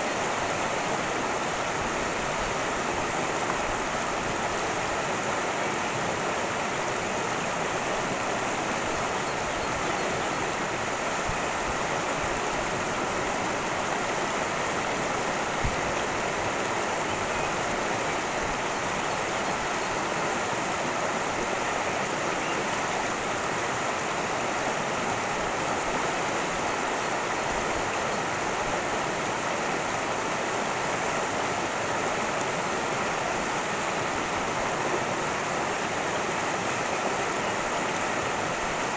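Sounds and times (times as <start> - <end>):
creek water rushing over stones: 0.0 - 38.9.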